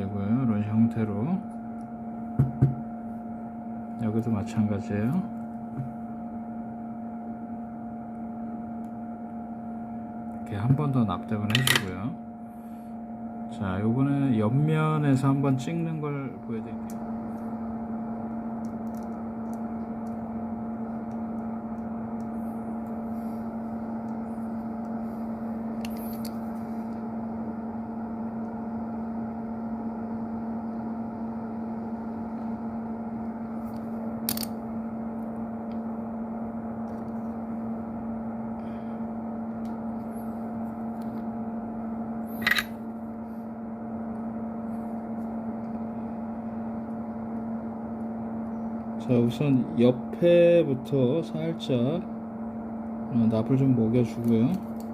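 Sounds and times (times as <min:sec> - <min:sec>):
steady electrical hum: 0:00.0 - 0:54.9.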